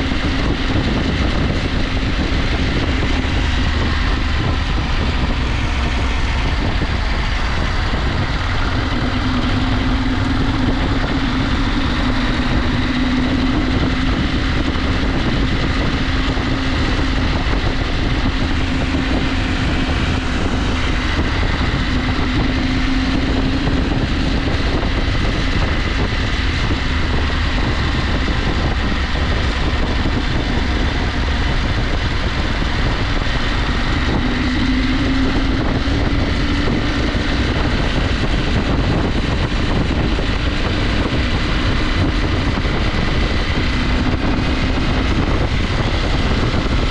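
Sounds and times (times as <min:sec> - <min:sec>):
motorcycle engine cruising: 0:00.0 - 0:46.9
wind and riding noise: 0:00.0 - 0:46.9.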